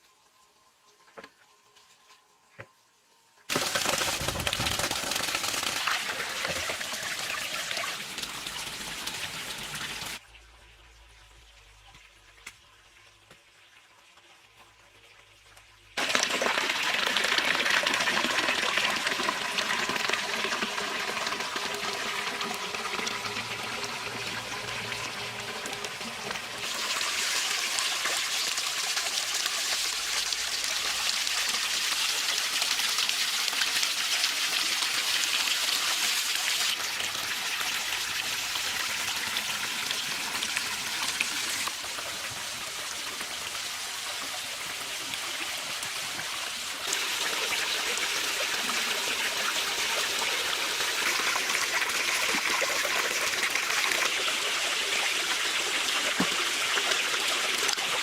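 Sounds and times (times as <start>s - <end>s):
running water splashing: 3.5s - 10.2s, 16.0s - 58.0s.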